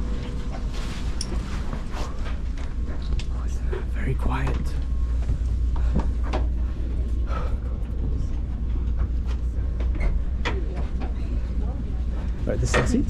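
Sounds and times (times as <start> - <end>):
train carriage hum: 0.0 - 13.0.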